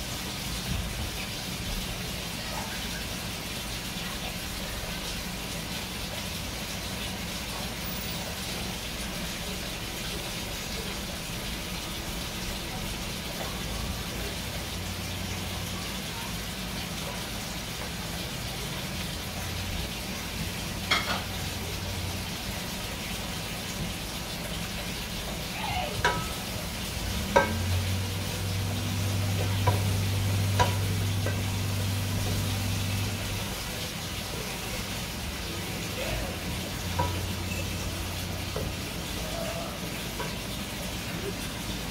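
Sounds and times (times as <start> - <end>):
curry sizzling in a pot: 0.0 - 41.9.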